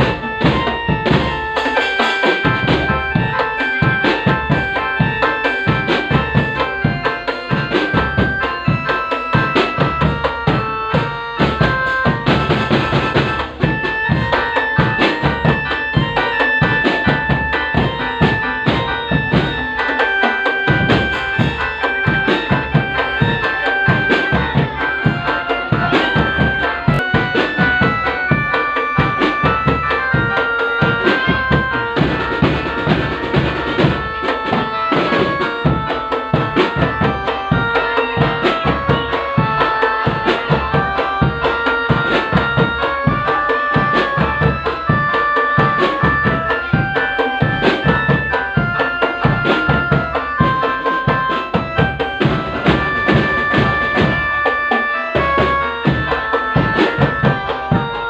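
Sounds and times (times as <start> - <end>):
bass drum: 0.0 - 1.8, 2.4 - 19.8, 20.7 - 54.4
fast steady drumming: 0.0 - 58.0
melody of short held notes: 0.0 - 58.0.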